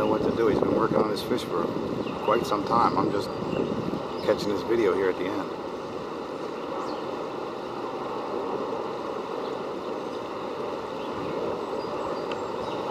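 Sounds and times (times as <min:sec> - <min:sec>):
steady outdoor rushing noise: 0:00.0 - 0:12.9.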